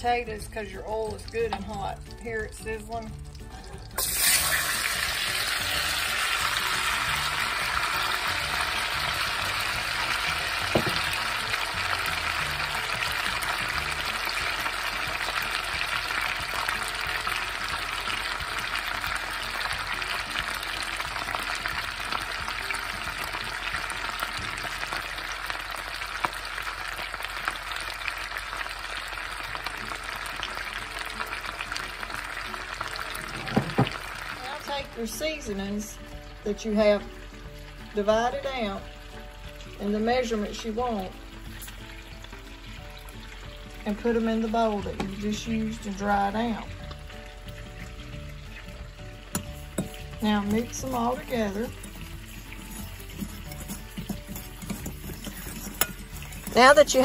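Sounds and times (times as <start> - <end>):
potatoes sizzling in skillet: 0.0 - 57.0.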